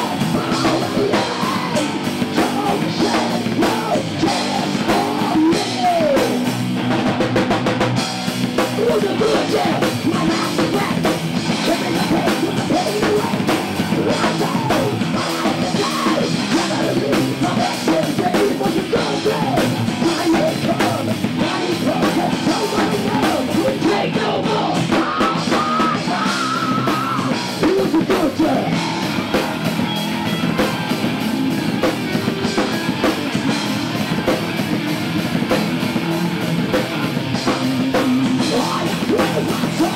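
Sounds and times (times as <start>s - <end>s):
distorted electric guitar: 0.0s - 39.9s
heavy metal band playing live: 0.0s - 39.9s
pounding drum kit: 0.0s - 39.9s.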